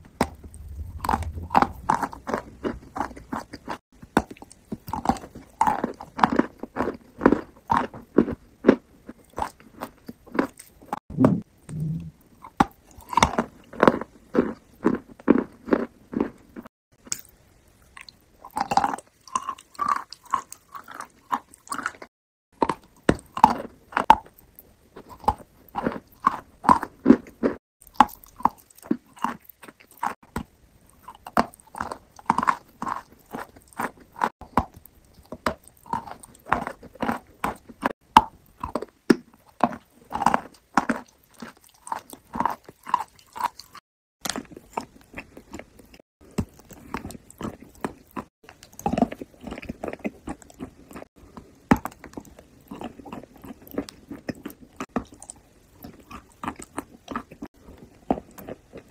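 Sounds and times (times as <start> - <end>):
chewing and biting soft dessert: 0.1 - 58.9.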